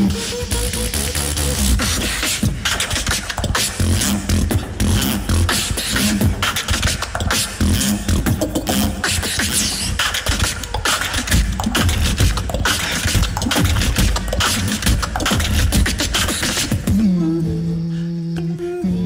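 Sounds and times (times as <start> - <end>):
beatboxing over pa: 0.0 - 19.0.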